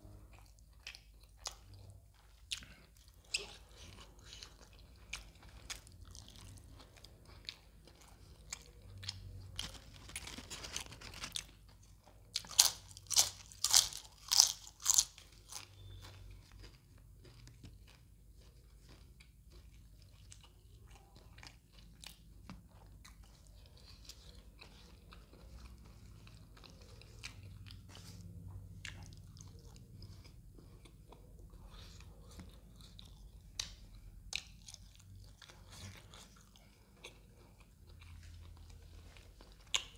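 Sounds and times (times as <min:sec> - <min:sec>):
chewing with wet mouth sounds: 0:00.0 - 0:39.9.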